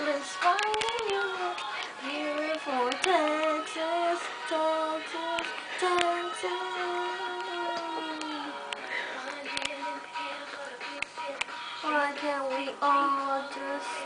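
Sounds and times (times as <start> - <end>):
girl singing: 0.0 - 14.0.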